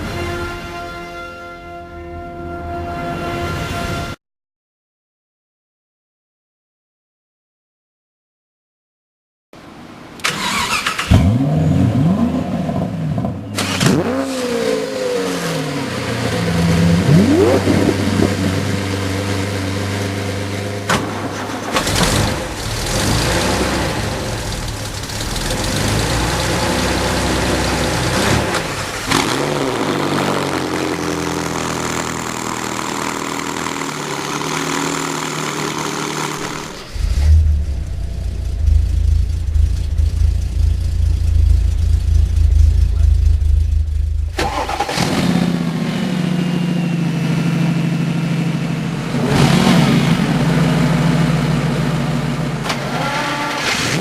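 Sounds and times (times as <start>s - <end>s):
car engine starting and revving: 10.2s - 54.0s.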